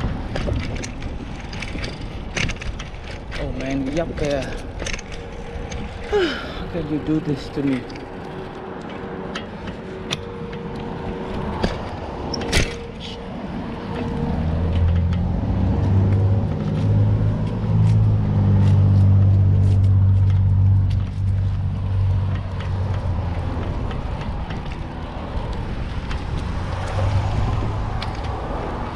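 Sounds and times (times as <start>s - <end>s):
car engine hum: 0.0s - 28.9s
road and wind noise: 0.0s - 28.9s.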